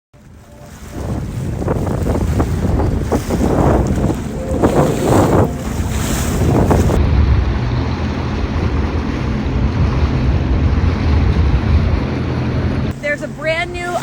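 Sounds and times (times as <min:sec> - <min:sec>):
jet ski engine: 0:00.2 - 0:14.0
rushing water: 0:00.2 - 0:14.0
wind buffeting microphone: 0:00.2 - 0:14.0.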